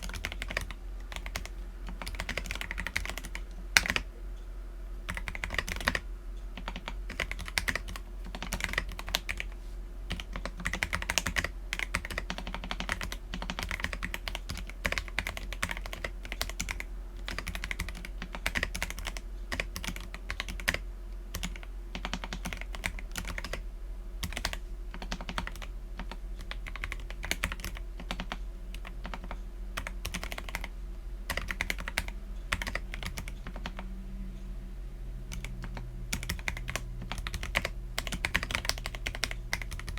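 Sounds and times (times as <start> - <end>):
mechanical keyboard typing: 0.0 - 4.1, 5.1 - 6.0, 6.6 - 9.5, 10.1 - 23.6, 24.2 - 30.7, 31.3 - 33.9, 35.3 - 39.9.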